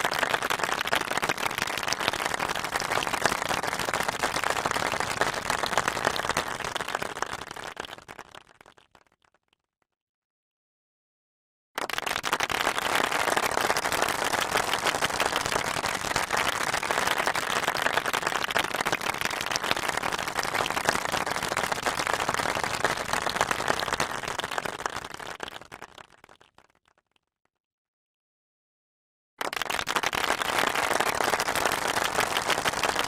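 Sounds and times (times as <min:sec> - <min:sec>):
crowd applauding: 0:00.0 - 0:08.6, 0:11.8 - 0:26.2, 0:29.4 - 0:33.0.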